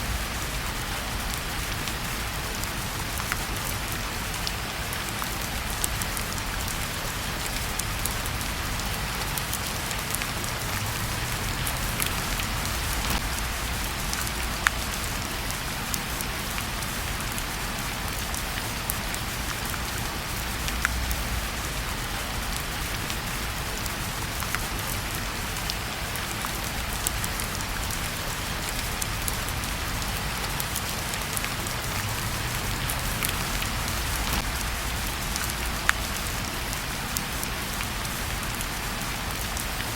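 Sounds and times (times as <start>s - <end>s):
rain falling: 0.0s - 39.9s
wood fire crackling: 0.1s - 39.8s.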